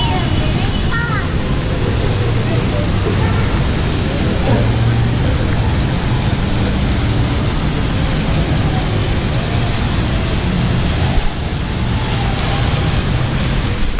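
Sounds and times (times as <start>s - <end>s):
fountain water splashing: 0.0s - 13.9s
street hubbub: 0.0s - 13.9s.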